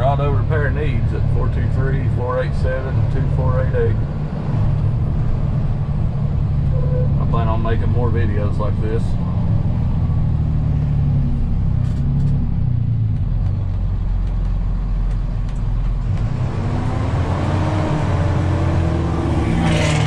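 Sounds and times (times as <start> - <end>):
road noise: 0.0 - 20.0
truck engine from inside cab: 0.0 - 20.0.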